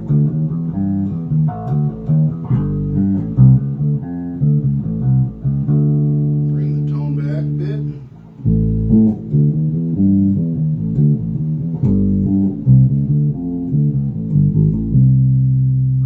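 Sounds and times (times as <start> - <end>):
plucked electric bass line: 0.0 - 16.0.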